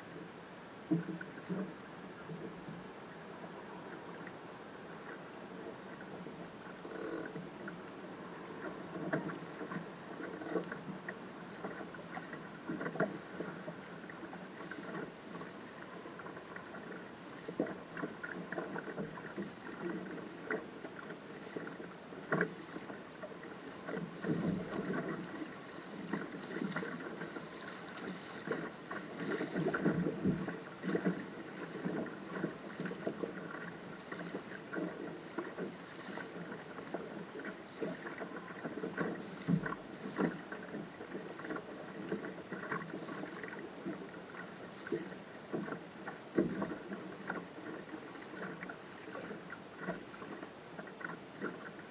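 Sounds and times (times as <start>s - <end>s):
water splashing against hull: 0.0s - 51.9s
hull and rigging knocks: 8.6s - 15.5s, 16.1s - 51.8s.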